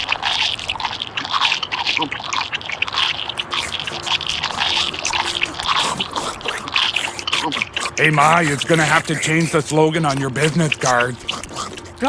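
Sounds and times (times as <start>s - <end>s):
wet chewing and slurping: 0.0s - 12.0s.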